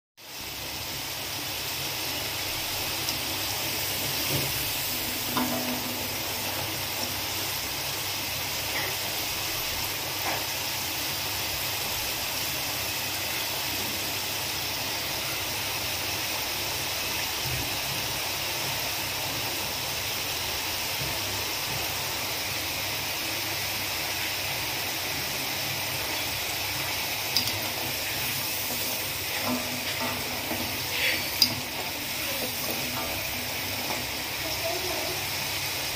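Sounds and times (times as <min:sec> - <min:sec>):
potato sticks sizzling in hot oil: 0:00.2 - 0:35.9.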